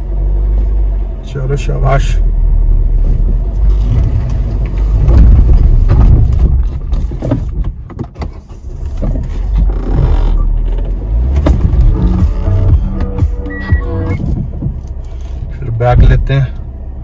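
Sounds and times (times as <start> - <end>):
car engine labouring uphill: 0.0 - 17.0.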